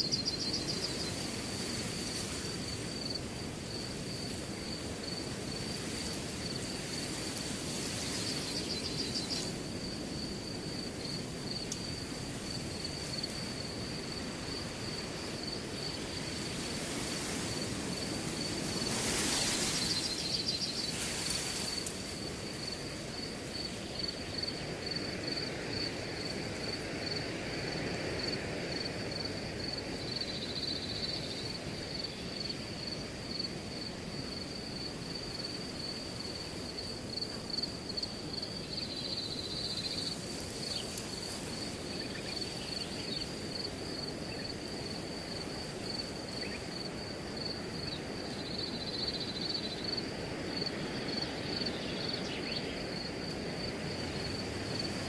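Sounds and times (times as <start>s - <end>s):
cricket chirping: 0.0s - 55.0s
wind rustling through grass: 0.0s - 55.0s.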